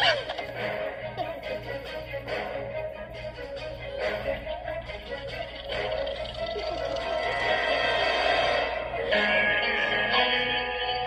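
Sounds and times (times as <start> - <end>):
music with repeating low notes: 0.0 - 11.0.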